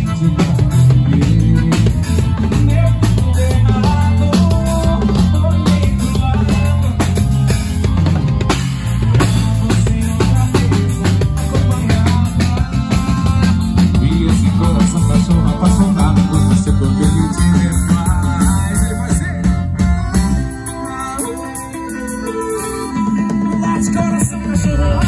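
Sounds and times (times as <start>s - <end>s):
accordion: 0.0s - 25.0s
drum kit beat: 0.0s - 25.0s
heavy electric bass line: 0.0s - 25.0s.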